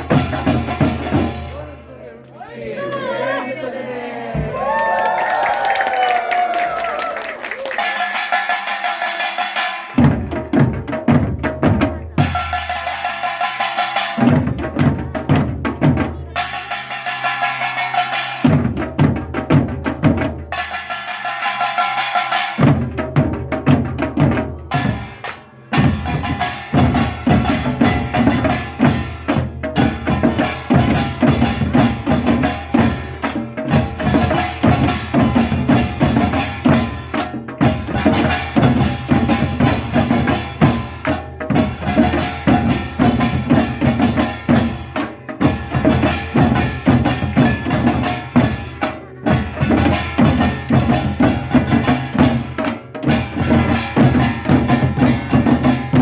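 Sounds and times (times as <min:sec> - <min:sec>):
folk percussion drums and gongs: 0:00.0 - 0:02.0, 0:04.3 - 0:05.0, 0:06.8 - 0:56.0.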